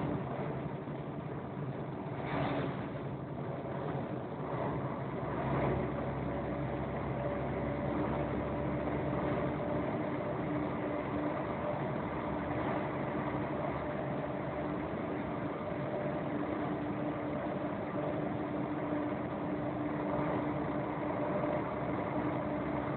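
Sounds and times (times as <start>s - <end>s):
steady engine hum: 0.0s - 22.9s
vehicle driving through tunnel: 0.0s - 22.9s.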